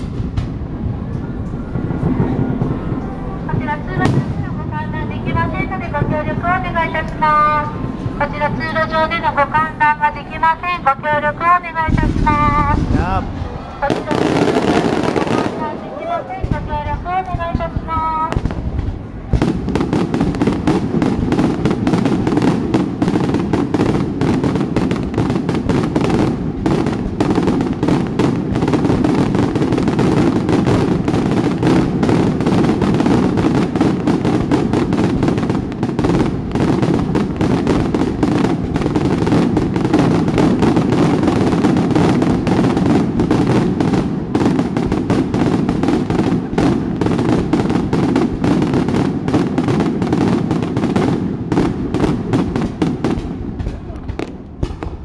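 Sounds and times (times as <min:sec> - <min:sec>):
fireworks booming and crackling: 0:00.0 - 0:55.0.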